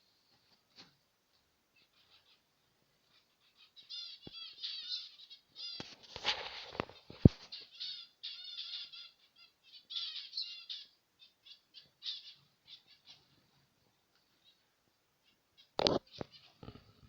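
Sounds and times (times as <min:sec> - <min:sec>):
finches chirping: 0:01.7 - 0:17.0.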